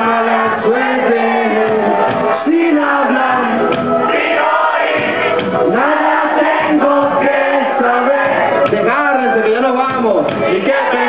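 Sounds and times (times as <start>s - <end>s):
live reggae band playing: 0.0s - 11.0s
voices singing held notes: 0.0s - 11.0s.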